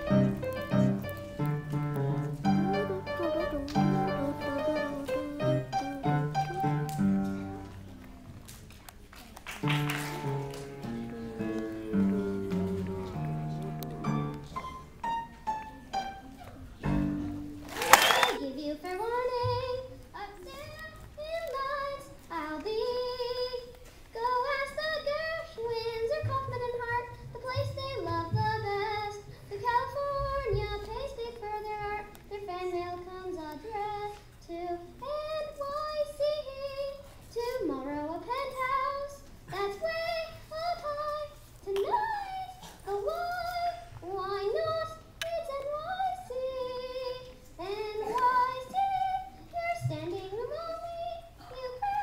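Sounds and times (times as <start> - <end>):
boy singing into a microphone: 0.0 - 7.9, 10.1 - 14.6, 16.6 - 52.0.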